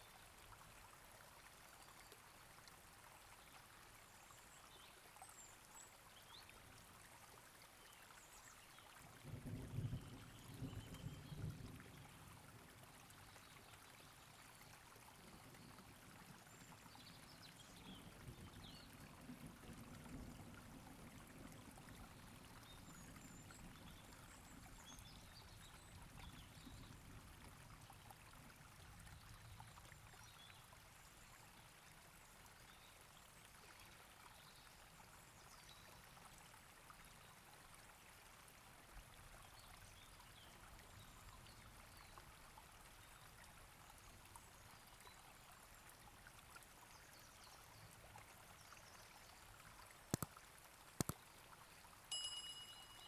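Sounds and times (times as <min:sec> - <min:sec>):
faint steady hiss: 0:00.0 - 0:53.0.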